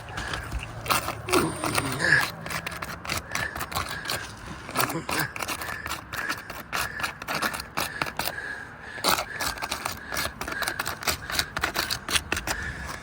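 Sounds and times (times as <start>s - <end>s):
roof shingles scraping and crackling: 0.0s - 13.0s.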